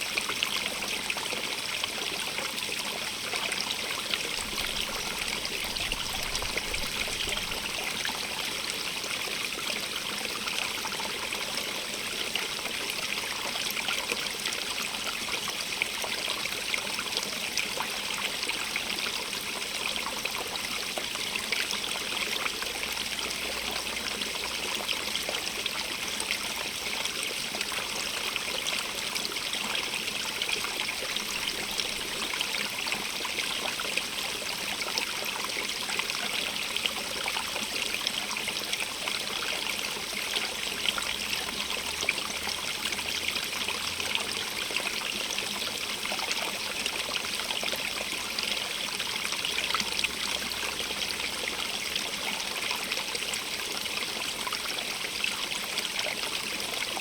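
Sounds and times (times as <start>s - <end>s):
stream trickling over stones: 0.0s - 57.0s.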